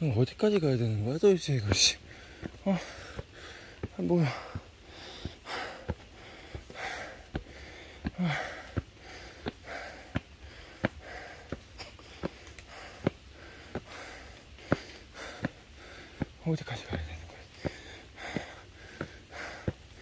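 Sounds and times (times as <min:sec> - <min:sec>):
footsteps on stairs: 0:01.4 - 0:20.0
person breathing hard: 0:02.0 - 0:16.4, 0:17.2 - 0:20.0.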